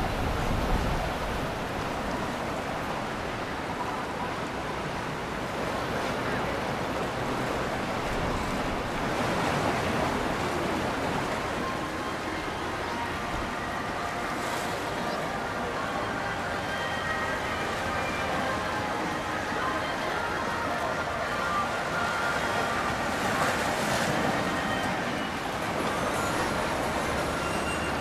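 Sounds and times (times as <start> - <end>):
moving water: 0.0 - 28.0.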